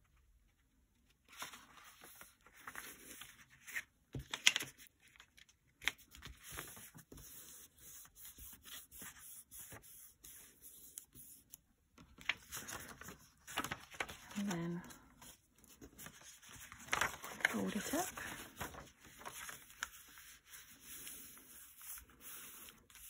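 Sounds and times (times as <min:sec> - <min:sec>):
paper rustling and rubbing: 0:01.2 - 0:05.2, 0:05.8 - 0:23.0.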